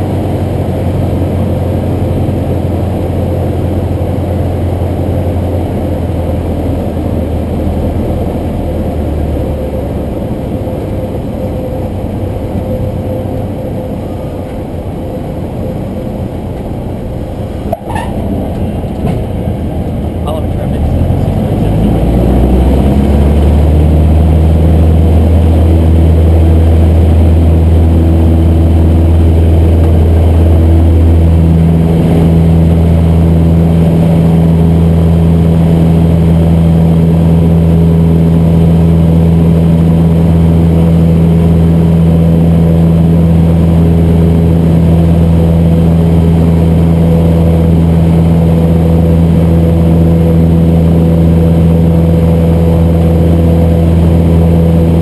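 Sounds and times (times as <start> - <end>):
airplane engine and propeller droning: 0.0 - 55.0.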